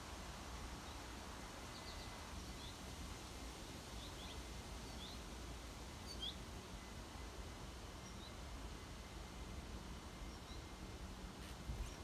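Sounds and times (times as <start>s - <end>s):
songbirds chirping: 0.6s - 3.0s, 3.7s - 12.0s.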